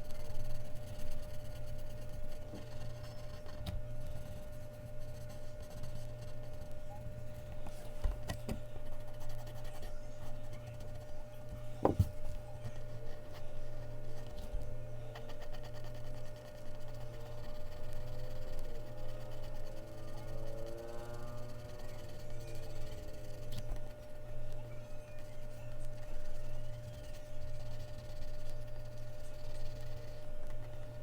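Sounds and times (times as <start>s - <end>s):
pencil scratching on paper: 0.0s - 11.2s, 11.8s - 24.2s, 25.2s - 31.0s.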